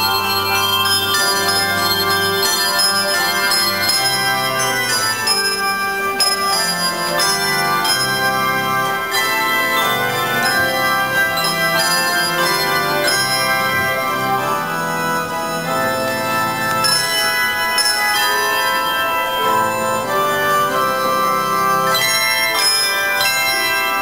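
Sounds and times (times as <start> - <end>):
handbell choir playing: 0.0 - 24.0.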